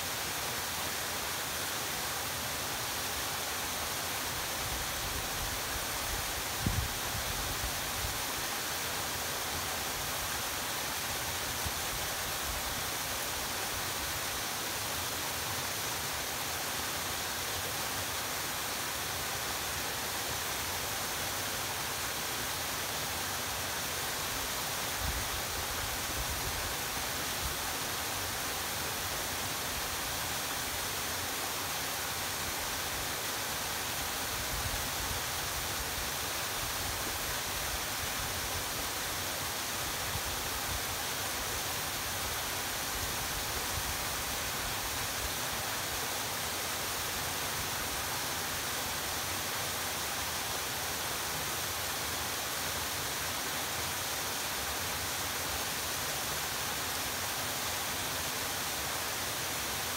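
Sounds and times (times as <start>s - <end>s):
waterfall hissing: 0.0s - 59.9s.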